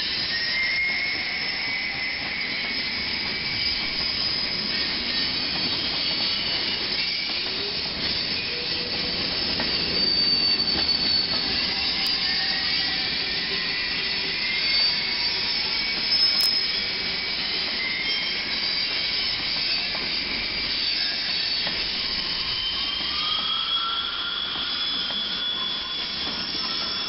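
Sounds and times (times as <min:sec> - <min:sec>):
freight train rolling past: 0:00.0 - 0:27.0
train wheels squealing: 0:00.0 - 0:27.0.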